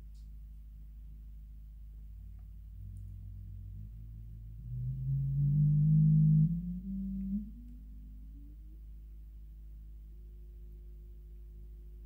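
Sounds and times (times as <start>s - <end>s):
low steady hum: 0.0s - 12.0s
low gliding oscillator tone: 2.0s - 12.0s
faint stepping oscillator tone: 2.1s - 12.0s.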